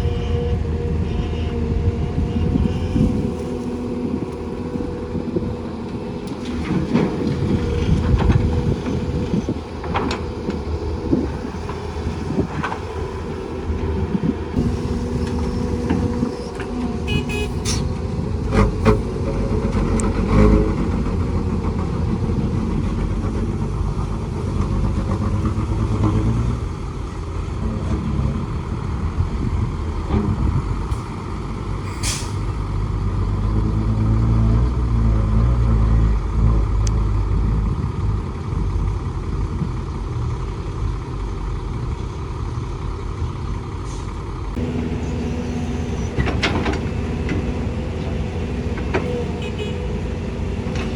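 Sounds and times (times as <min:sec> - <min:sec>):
heavy diesel engines running: 0:00.0 - 0:50.9.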